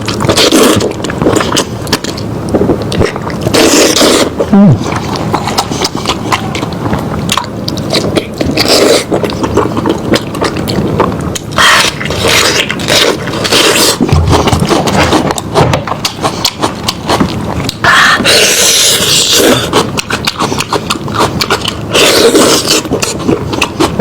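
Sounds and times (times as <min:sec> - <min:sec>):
chewing and sucking meat: 0:00.0 - 0:24.0.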